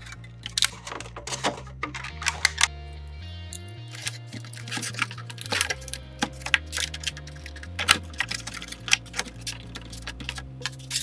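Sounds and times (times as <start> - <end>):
hands handling battery and wires: 0.0 - 11.0
soft background music: 0.0 - 11.0.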